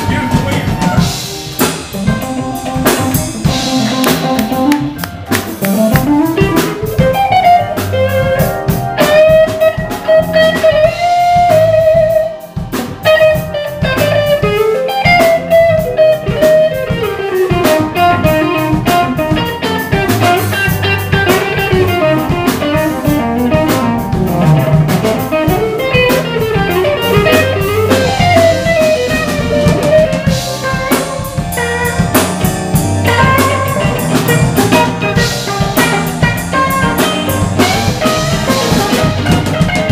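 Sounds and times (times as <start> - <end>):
drum kit: 0.0 - 39.9
electric bass: 0.0 - 39.9
electric guitar lead: 0.0 - 39.9.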